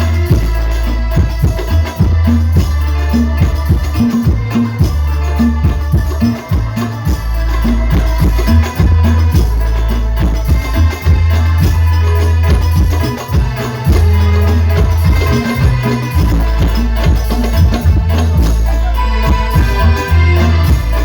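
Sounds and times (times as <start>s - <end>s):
devotional music over sound system: 0.0s - 21.0s
hand drums beat: 0.0s - 21.0s
jingling percussion: 0.0s - 21.0s.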